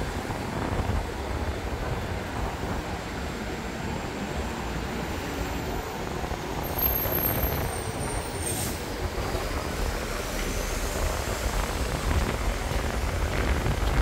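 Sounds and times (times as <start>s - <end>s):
road traffic rushing by: 0.0s - 14.0s.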